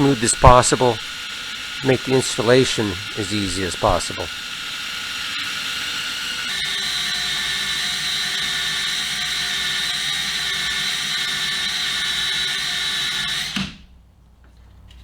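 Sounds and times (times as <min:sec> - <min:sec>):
electric drill whining: 0:00.0 - 0:13.9.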